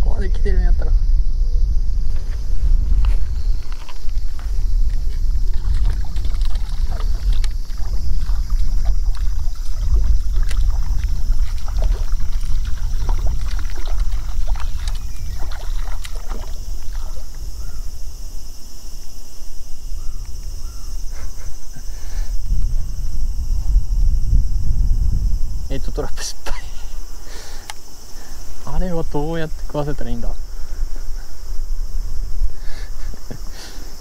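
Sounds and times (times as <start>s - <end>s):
high insect buzz: 0.0s - 34.0s
wind buffeting microphone: 0.0s - 34.0s.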